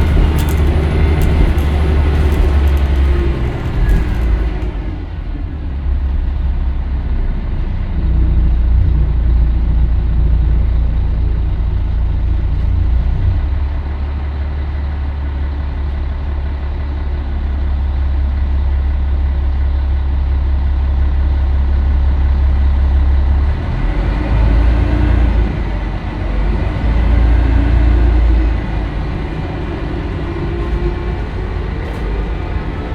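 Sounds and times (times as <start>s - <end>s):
diesel bus engine droning: 0.0s - 32.9s.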